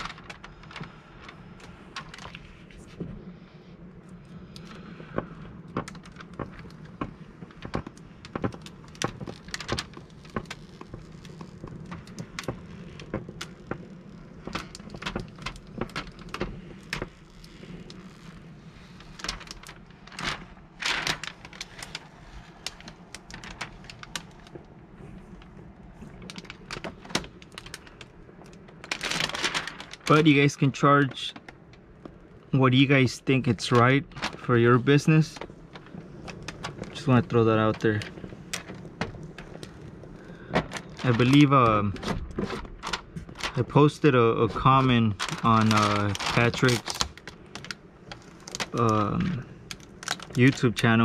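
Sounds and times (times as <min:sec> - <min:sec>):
film peeling off glass crackling: 0:00.0 - 0:02.6, 0:05.7 - 0:51.0
low steady hum: 0:00.0 - 0:51.0.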